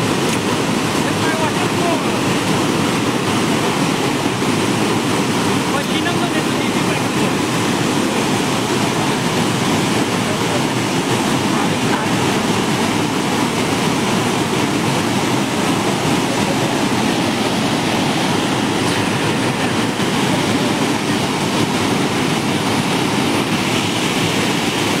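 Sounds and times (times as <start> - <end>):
flooded river rushing: 0.0 - 25.0.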